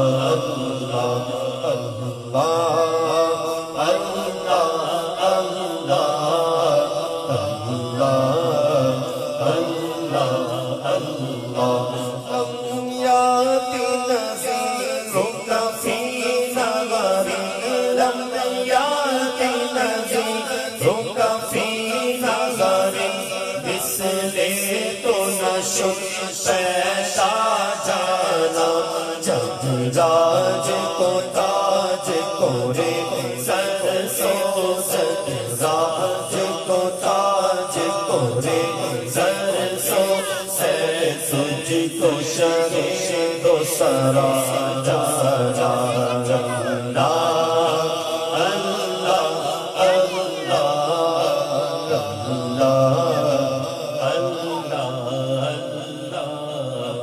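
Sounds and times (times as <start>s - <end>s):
man chanting a hymn: 0.0s - 57.0s.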